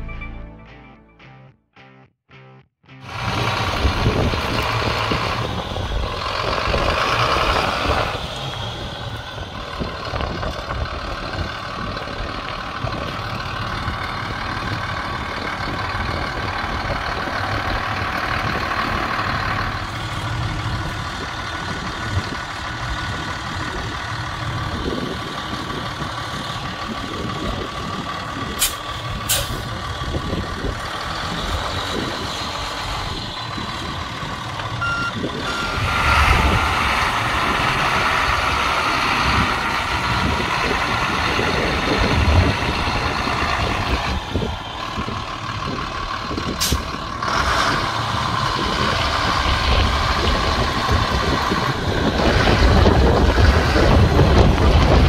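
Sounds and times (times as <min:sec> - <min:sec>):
diesel truck engine idling: 0:03.1 - 0:55.0.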